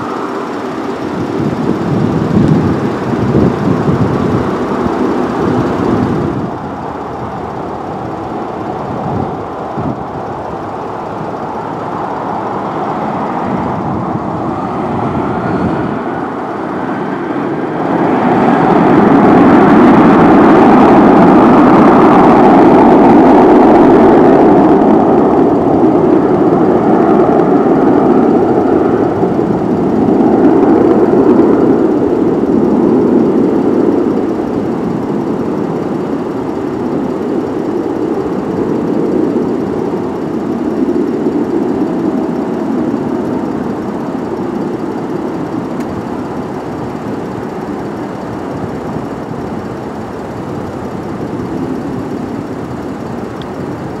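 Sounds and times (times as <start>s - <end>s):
jet engine roar: 0.0s - 54.0s.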